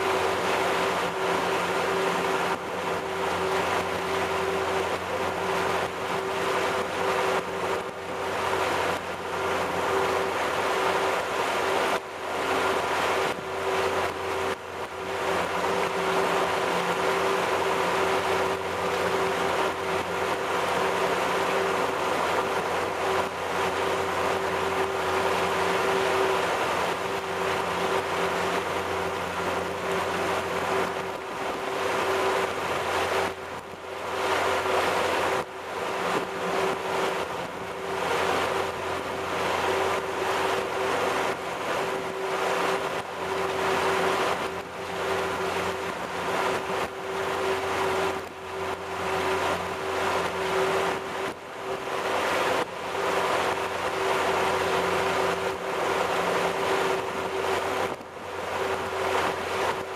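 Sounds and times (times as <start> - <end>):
boat engine running: 0.0 - 59.9
water rushing along hull: 0.0 - 59.9.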